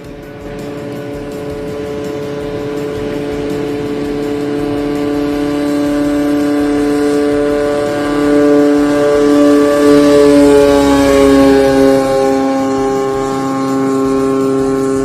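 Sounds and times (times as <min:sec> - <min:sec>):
two-stroke engine at high revs: 0:00.0 - 0:15.0.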